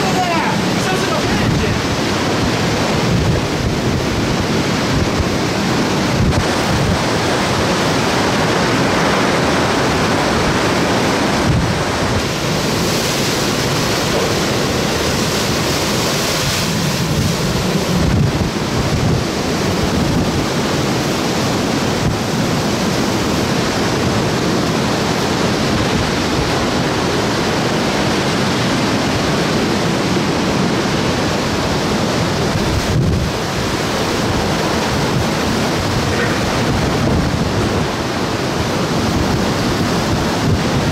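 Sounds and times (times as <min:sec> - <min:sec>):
driving rain: 0:00.0 - 0:40.9
strong wind: 0:00.0 - 0:40.9
wind buffeting microphone: 0:00.0 - 0:40.9.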